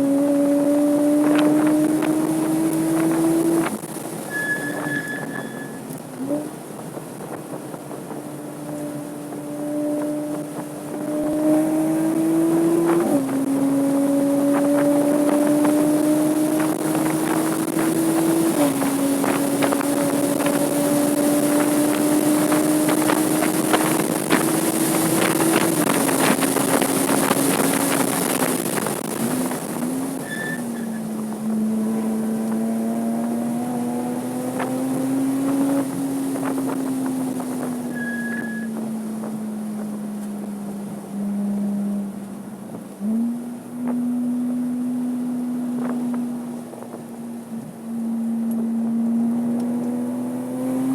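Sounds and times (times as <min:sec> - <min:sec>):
car engine accelerating: 0:00.0 - 0:50.9
wind and road noise: 0:00.0 - 0:50.9.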